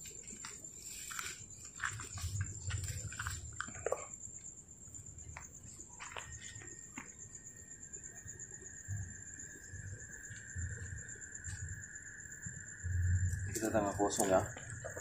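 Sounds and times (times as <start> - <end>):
high-pitched insect trill: 0.0 - 15.0
lower steady insect buzz: 0.0 - 15.0.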